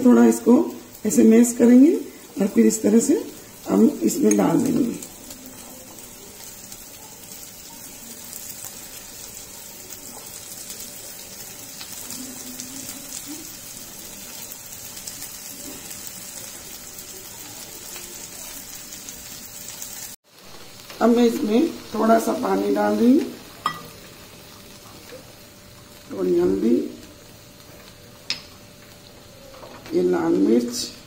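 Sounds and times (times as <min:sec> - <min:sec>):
beans sizzling in oil: 0:00.0 - 0:31.0.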